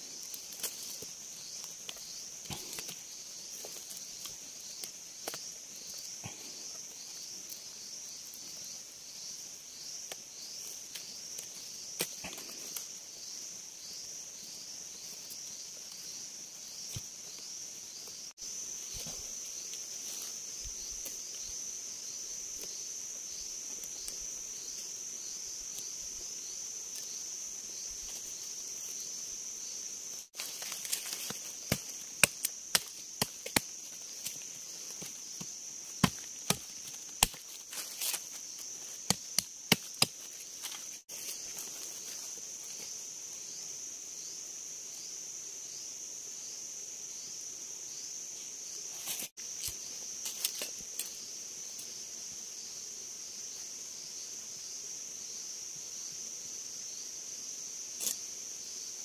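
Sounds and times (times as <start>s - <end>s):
forest insects trilling: 0.0s - 59.0s.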